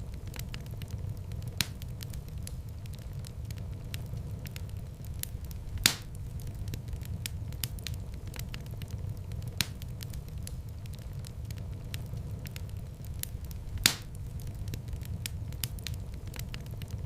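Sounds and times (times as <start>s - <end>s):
fireplace fire crackling: 0.0s - 17.0s
loud pops of fire: 0.0s - 17.0s
low rumble of flames: 0.0s - 17.0s.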